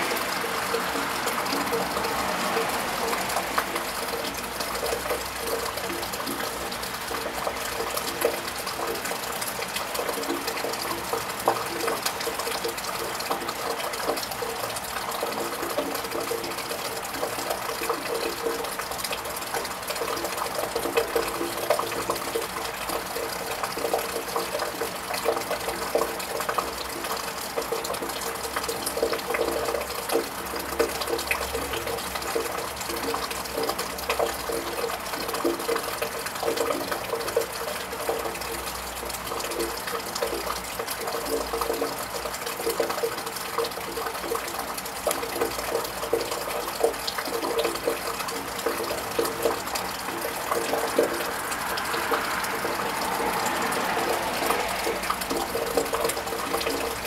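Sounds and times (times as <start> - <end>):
rain on tiled roof: 0.0 - 57.0
water drips ticking: 0.0 - 57.0
water running: 0.0 - 57.0.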